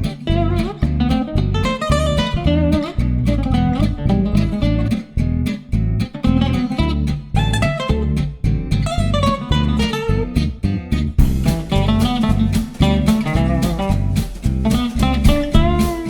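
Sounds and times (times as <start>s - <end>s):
flamenco-like acoustic guitar music: 0.0s - 16.0s.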